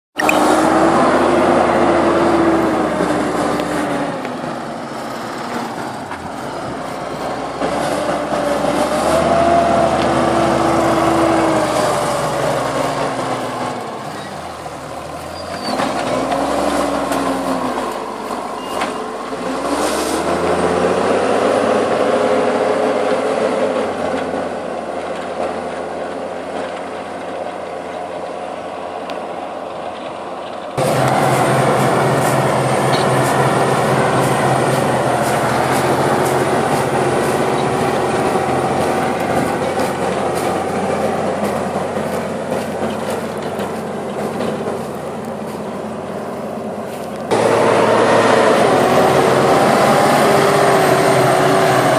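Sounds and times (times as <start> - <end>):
tractor engine running: 0.1 - 51.9.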